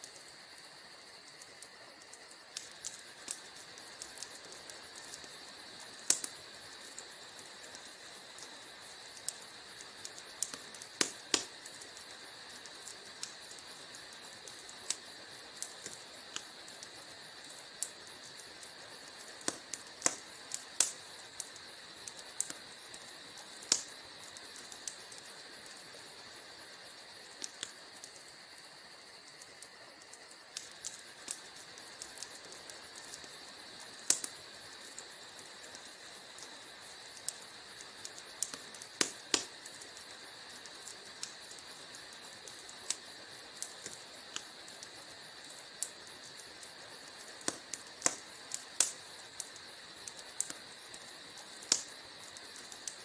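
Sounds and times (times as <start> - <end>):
faint hiss: 0.0 - 53.0
wood fire crackling: 0.0 - 53.0.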